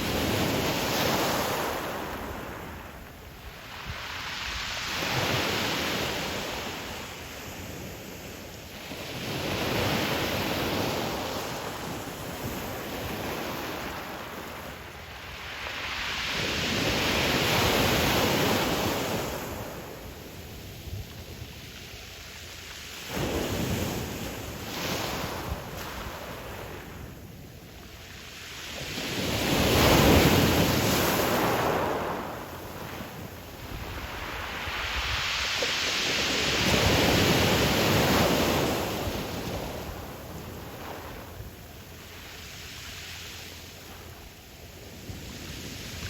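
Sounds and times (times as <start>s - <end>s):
waves on pebble beach: 0.0s - 21.4s, 22.1s - 27.1s, 28.0s - 44.2s.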